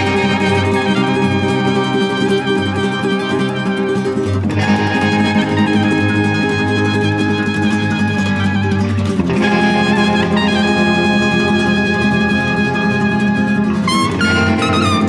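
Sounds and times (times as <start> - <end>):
instrumental music with held chords: 0.0 - 15.0.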